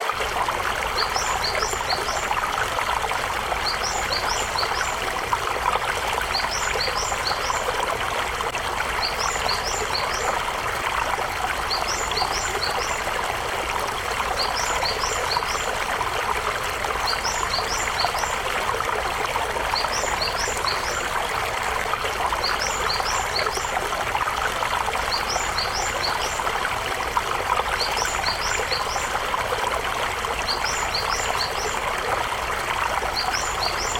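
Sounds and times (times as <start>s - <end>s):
river water over stones: 0.0s - 33.9s.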